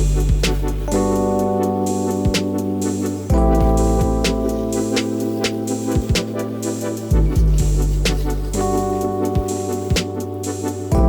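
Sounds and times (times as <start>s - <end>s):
steady drum beat: 0.0s - 11.0s
sustained keyboard chords: 0.0s - 11.0s.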